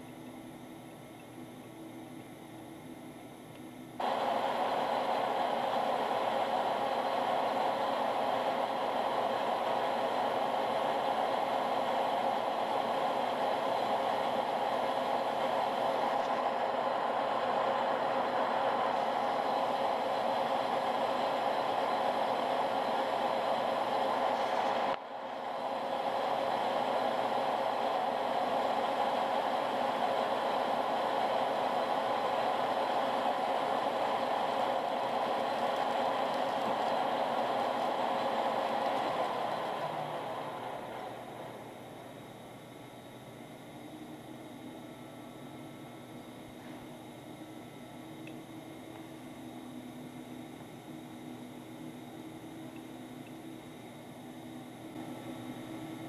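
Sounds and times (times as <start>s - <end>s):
metal lathe whirring: 4.0s - 56.0s.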